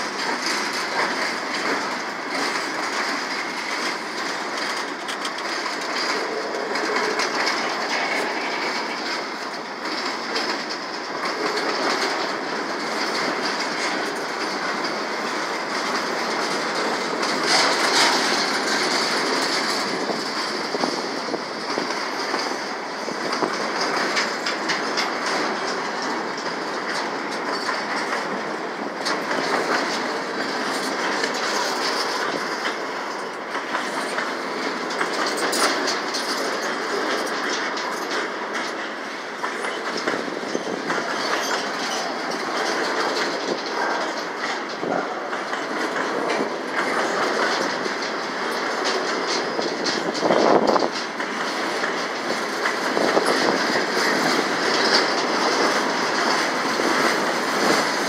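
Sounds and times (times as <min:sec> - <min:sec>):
train wheels rolling on rail: 0:00.0 - 0:58.0
wheels clicking over rail joints: 0:00.0 - 0:58.0.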